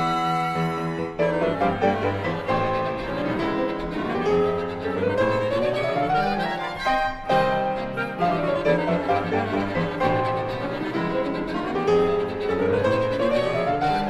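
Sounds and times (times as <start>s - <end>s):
bowed strings: 0.0s - 14.0s
classical chamber ensemble: 0.0s - 14.0s
piano: 0.0s - 14.0s.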